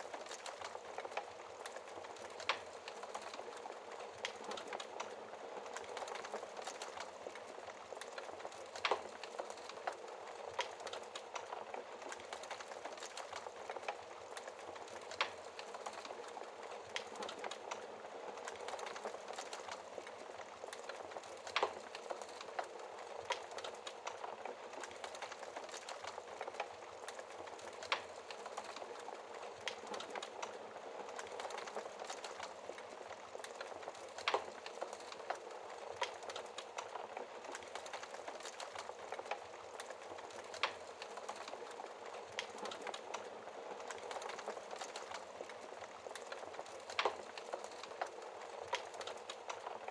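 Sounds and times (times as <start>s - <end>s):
fire popping and snapping: 0.0s - 49.9s
wood fire crackling: 0.0s - 49.9s.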